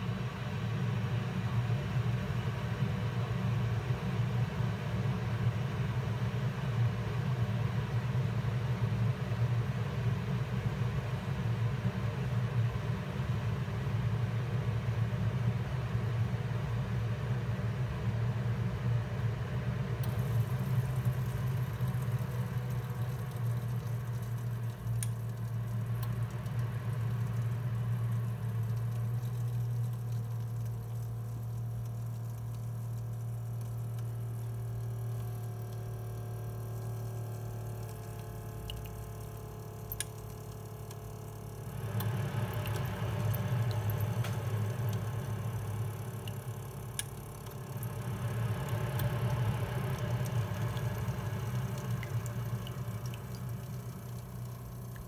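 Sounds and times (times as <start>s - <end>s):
coffee maker pump humming: 0.0s - 55.0s.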